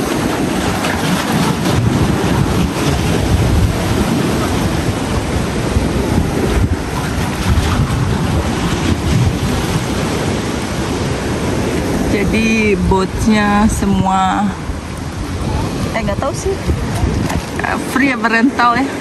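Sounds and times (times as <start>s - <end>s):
small sea waves: 0.0s - 19.0s
wind buffeting microphone: 0.0s - 19.0s.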